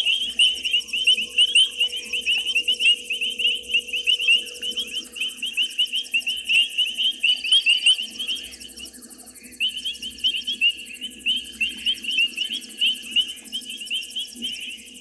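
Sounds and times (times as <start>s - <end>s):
frogs and insects chirping: 0.0s - 15.0s.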